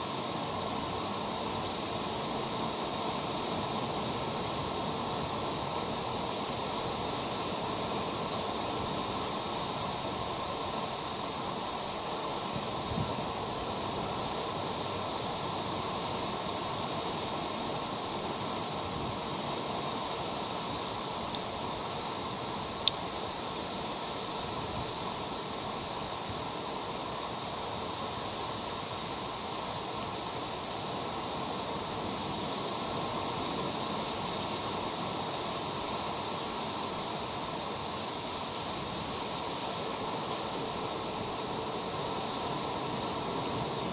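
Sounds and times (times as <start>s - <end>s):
outdoor background hiss: 0.0s - 43.9s
steady rushing noise: 0.0s - 43.9s.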